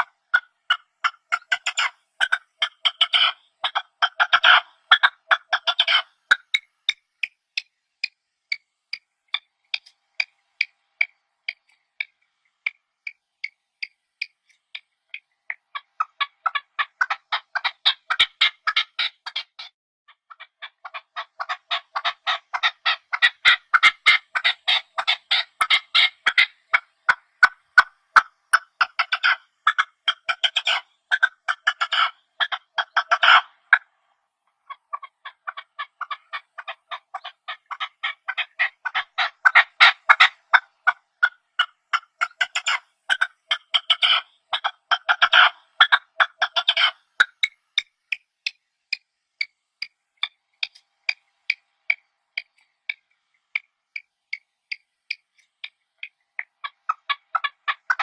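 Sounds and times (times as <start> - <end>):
partridge clucking and chattering: 0.0 - 58.0.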